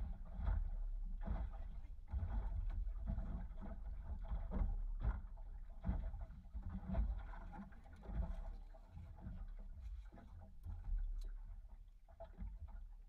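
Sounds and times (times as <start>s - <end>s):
knocks and bumps on boat: 0.0s - 13.0s.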